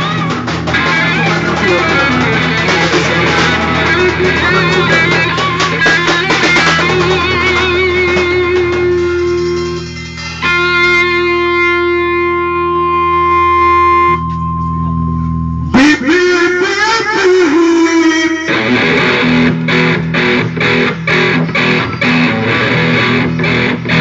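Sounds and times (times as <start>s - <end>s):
guitar chord ringing: 0.0s - 16.4s, 18.4s - 24.0s
guitar-led band music: 0.0s - 24.0s.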